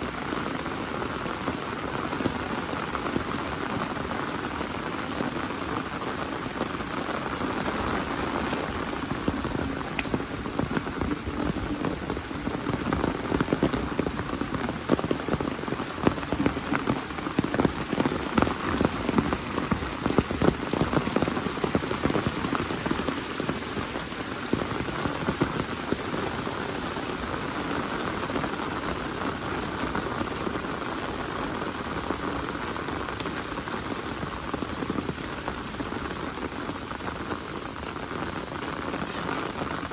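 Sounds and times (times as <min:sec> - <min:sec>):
heavy rain falling: 0:00.0 - 0:39.9
raindrops ticking sharply: 0:00.0 - 0:39.9.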